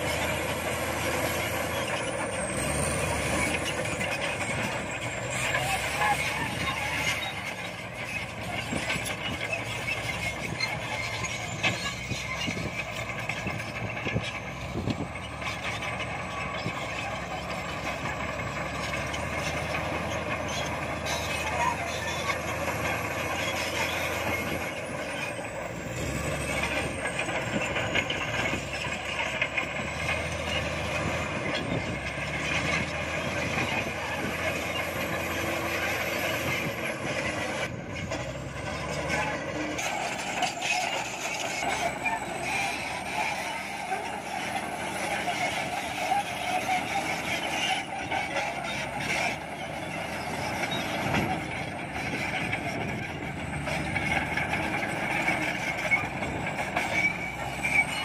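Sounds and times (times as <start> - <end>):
bulldozer diesel engine running: 0.0 - 58.0
bulldozer pushing soil and rock: 0.0 - 58.0.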